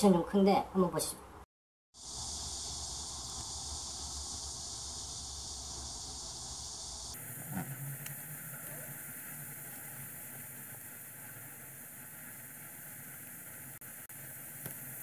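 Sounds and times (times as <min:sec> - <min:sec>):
background hiss: 0:02.0 - 0:15.0.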